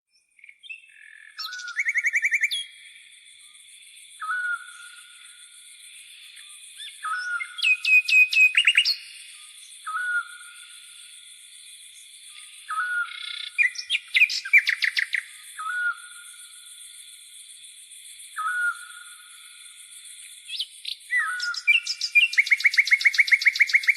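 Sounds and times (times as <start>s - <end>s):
songbirds singing: 0.1s - 23.9s.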